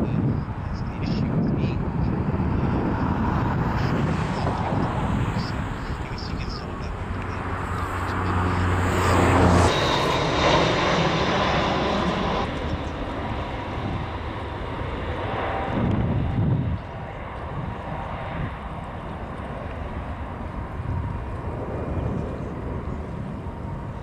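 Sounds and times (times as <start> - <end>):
jet engines passing by: 0.0 - 24.0.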